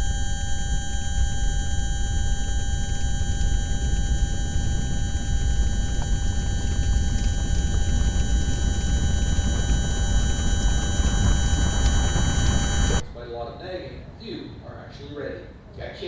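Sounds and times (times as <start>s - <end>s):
electronic drone with high tones: 0.0s - 13.0s.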